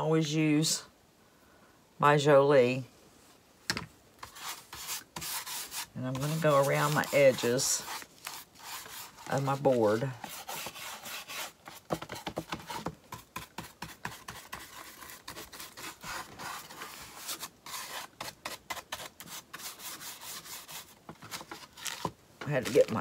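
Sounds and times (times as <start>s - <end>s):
wax scrubbing on wood: 4.2s - 23.0s.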